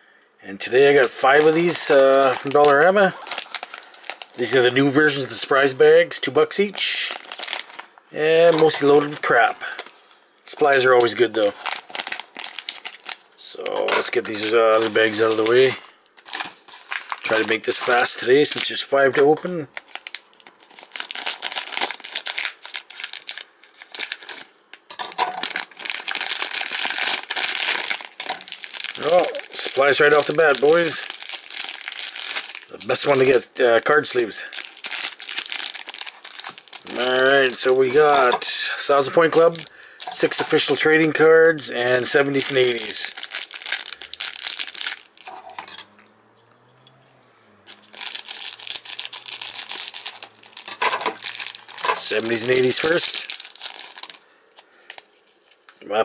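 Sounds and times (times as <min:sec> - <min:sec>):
plastic bag crinkling: 0:00.6 - 0:46.0, 0:47.7 - 0:55.9.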